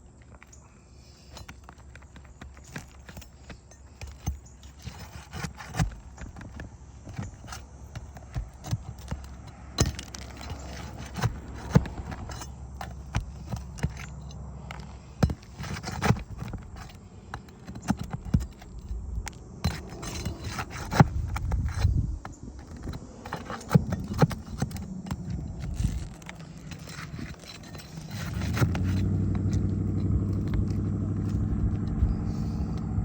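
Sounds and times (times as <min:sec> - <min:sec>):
pry bar clicking and scraping: 0:00.0 - 0:33.0.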